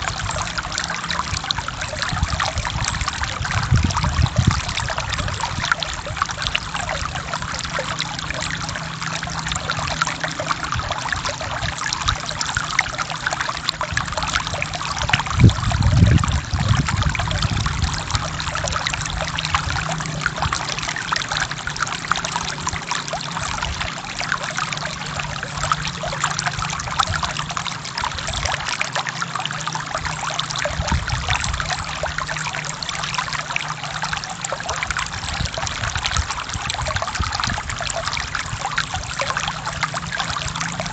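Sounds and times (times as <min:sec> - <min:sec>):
low water gurgle: 0:00.0 - 0:40.9
stream water rushing: 0:00.0 - 0:40.9.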